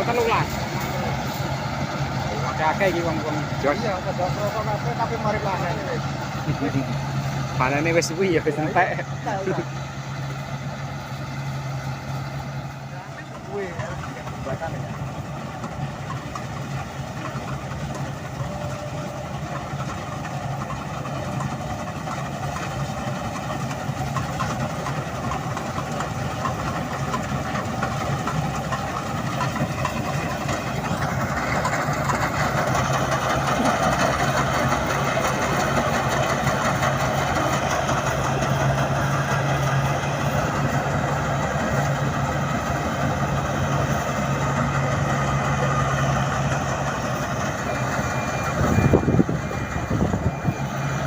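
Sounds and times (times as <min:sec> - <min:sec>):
combine harvester engine running: 0:00.0 - 0:51.0.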